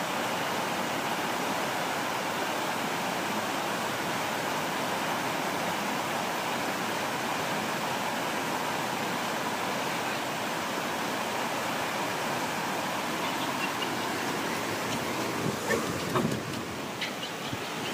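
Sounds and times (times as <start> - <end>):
river rushing: 0.0 - 17.9.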